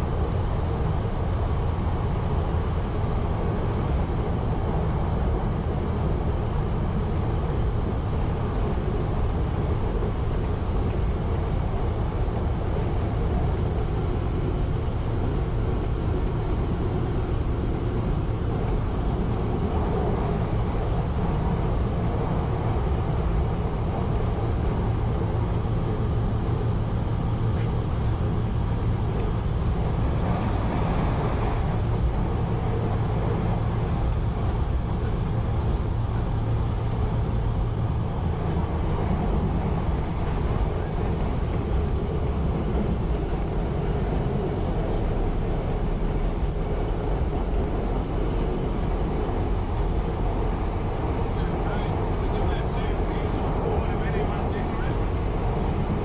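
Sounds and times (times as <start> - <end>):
railmotor engine rumble: 0.0 - 56.0.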